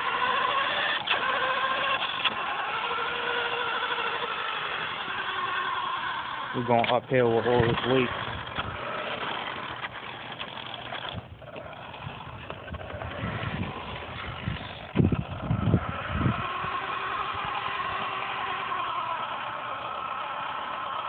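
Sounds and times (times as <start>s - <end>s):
electric motor and gears whirring: 0.0s - 21.0s.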